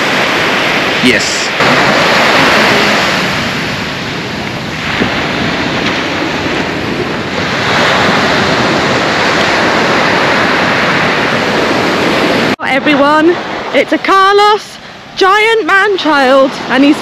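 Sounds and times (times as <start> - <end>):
ocean surf washing onto beach: 0.0 - 17.0
wind on microphone: 0.0 - 17.0.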